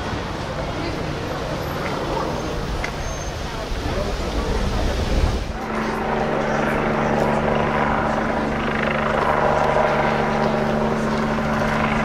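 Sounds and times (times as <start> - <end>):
helicopter engine and rotor hum: 0.5 - 4.9, 5.5 - 12.0.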